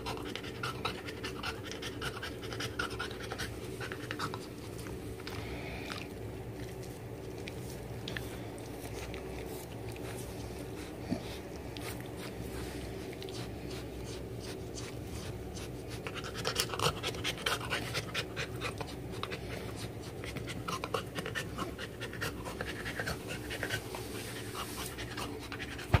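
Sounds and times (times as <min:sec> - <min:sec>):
dog panting: 0:00.0 - 0:06.8, 0:07.5 - 0:26.0.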